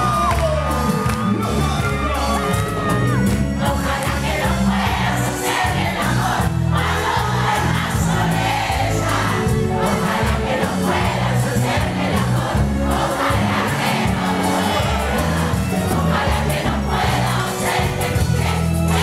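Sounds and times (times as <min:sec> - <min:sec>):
live cumbia band: 0:00.0 - 0:19.0
crowd singing along: 0:02.9 - 0:19.0.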